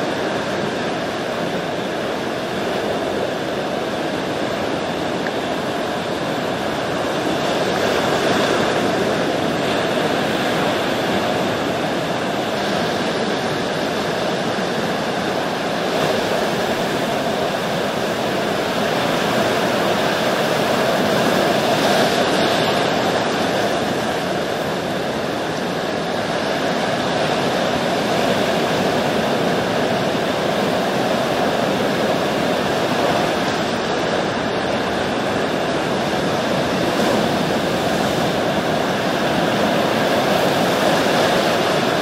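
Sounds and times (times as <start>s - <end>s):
ocean waves breaking: 0.0s - 42.0s.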